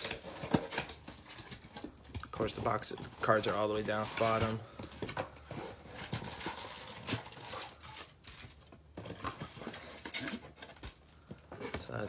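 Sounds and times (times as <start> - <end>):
wrappers rustling and crinkling: 0.0 - 12.0.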